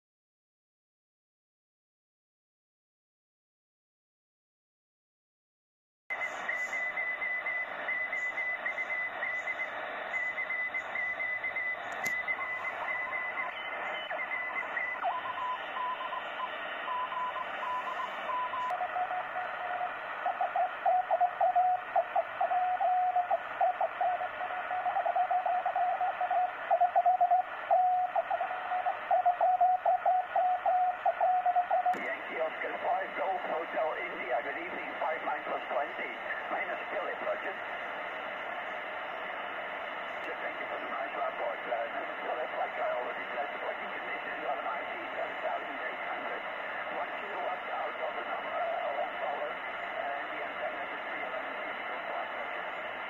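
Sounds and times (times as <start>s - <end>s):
radio band hiss: 6.1s - 53.0s
radio whistling tones: 6.1s - 53.0s
radio click: 6.2s - 53.0s.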